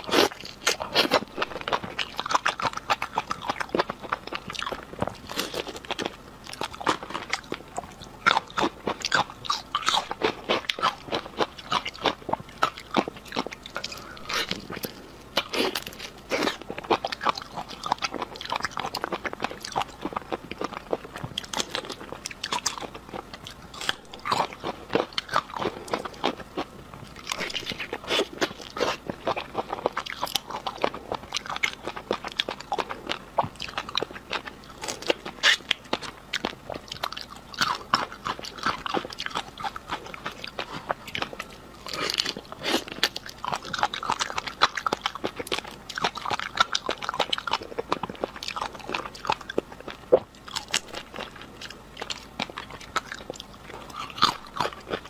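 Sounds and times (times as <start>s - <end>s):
crunching and chewing food: 0.0s - 55.0s.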